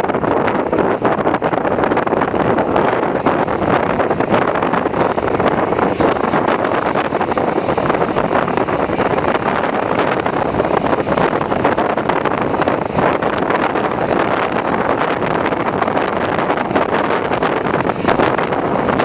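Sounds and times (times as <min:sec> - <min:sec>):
train running on track: 0:00.0 - 0:19.0
wind rushing on microphone: 0:00.0 - 0:19.0.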